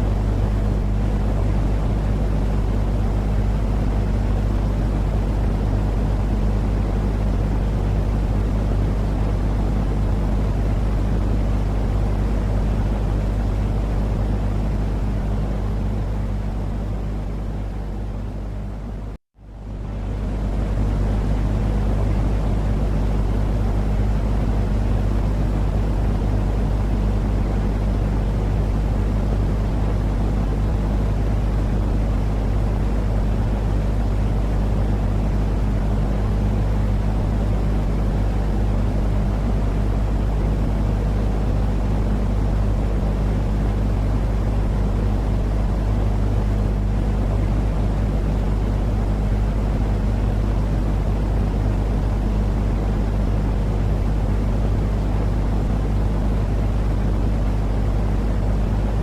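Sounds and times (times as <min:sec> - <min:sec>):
deep steady rumble with hum: 0:00.0 - 0:59.0.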